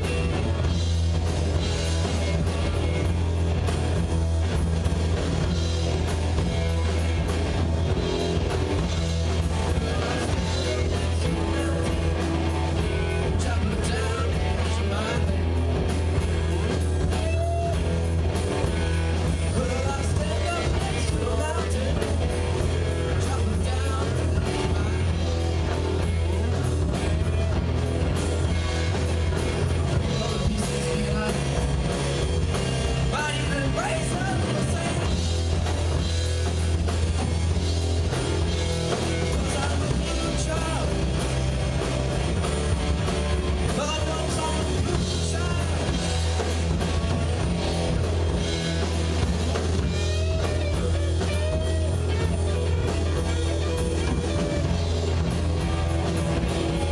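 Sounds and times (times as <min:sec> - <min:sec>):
drum kit: 0:00.0 - 0:56.9
electric guitars: 0:00.0 - 0:56.9.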